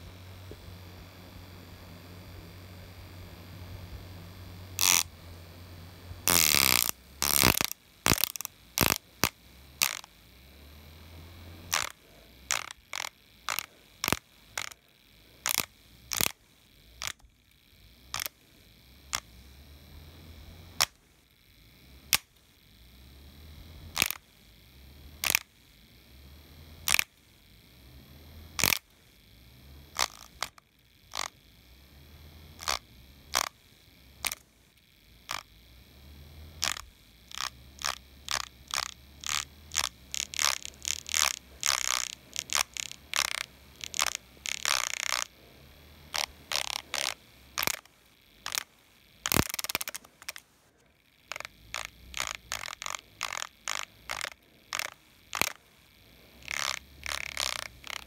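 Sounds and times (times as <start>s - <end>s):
faint low hum: 0.0s - 58.0s
toy sharp clicks: 4.7s - 5.2s, 6.2s - 21.0s, 21.9s - 25.7s, 26.6s - 28.9s, 29.8s - 34.4s, 35.2s - 35.6s, 36.3s - 50.5s, 51.2s - 58.0s.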